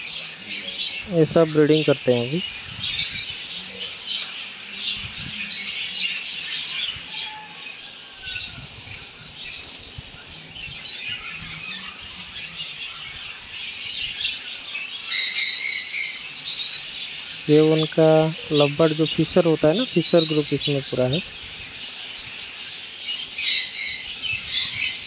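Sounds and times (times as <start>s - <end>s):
parrots chirping and squawking: 0.0s - 25.0s.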